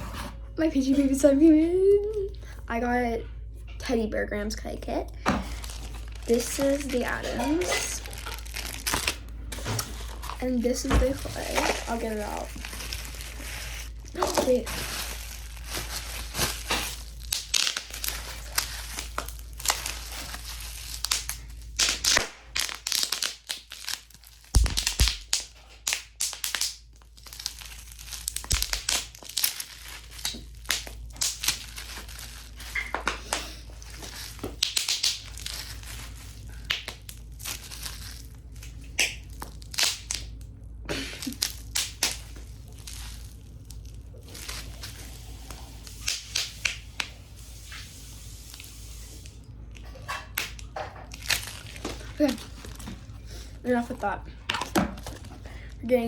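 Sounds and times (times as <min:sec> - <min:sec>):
packaging crinkling and tearing: 0:05.4 - 0:55.8.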